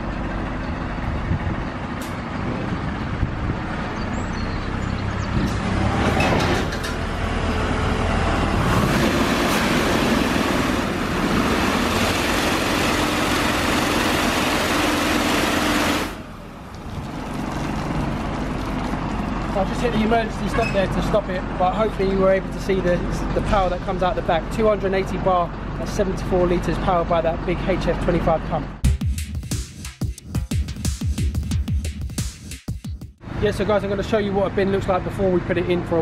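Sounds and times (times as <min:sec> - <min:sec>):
truck engine running: 0:00.0 - 0:28.9, 0:33.2 - 0:36.0.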